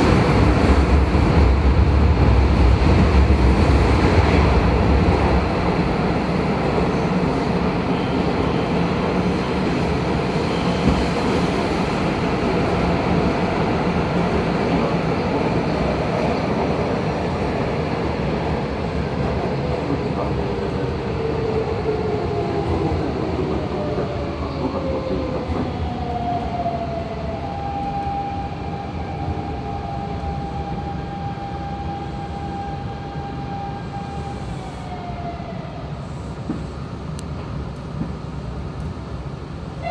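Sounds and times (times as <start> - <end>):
train rumble underground: 0.0 - 39.9.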